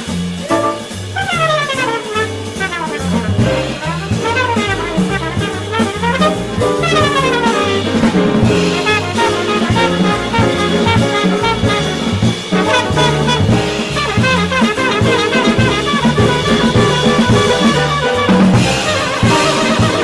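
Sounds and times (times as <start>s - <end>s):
drum kit with ride cymbal: 0.0s - 20.0s
piano: 0.0s - 20.0s
upright bass: 0.0s - 20.0s
horn solo: 0.4s - 20.0s.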